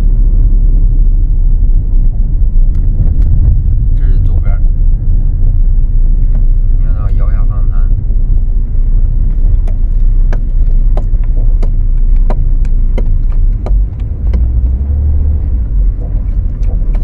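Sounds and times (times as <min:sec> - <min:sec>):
car driving rumble inside cabin: 0:00.0 - 0:17.0.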